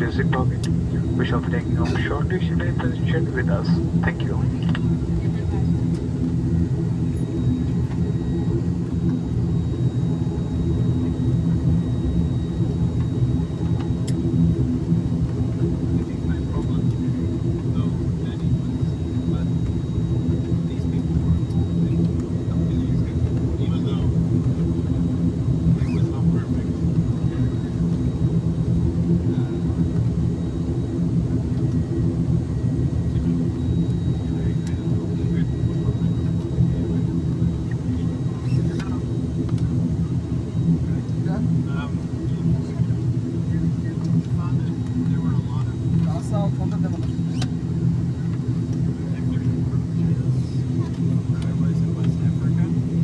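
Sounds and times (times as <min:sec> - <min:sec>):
airliner engines droning: 0:00.0 - 0:53.0.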